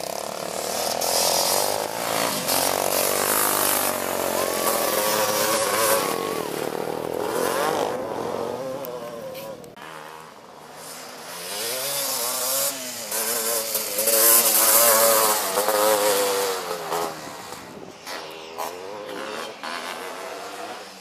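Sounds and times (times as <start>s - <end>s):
atv engine passing: 0.0s - 21.0s.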